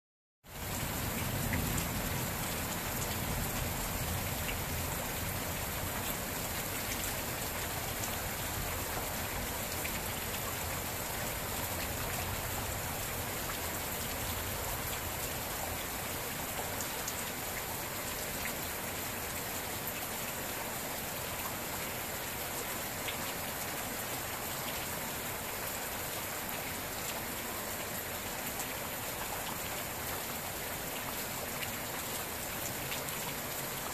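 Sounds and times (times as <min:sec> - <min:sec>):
steady rain: 0:00.4 - 0:33.9.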